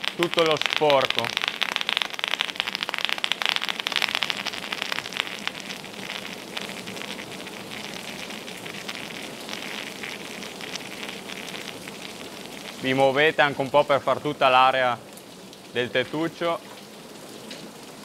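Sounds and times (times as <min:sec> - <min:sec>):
water spray pattering on roof: 0:00.0 - 0:18.0.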